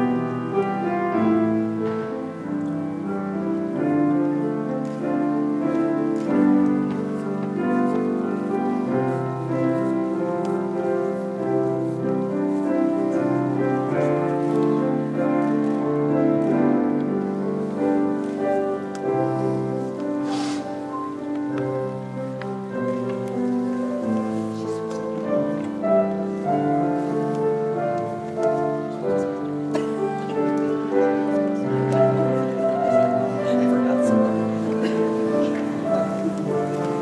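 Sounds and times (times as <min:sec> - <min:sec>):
slow keyboard processional music: 0:00.0 - 0:37.0.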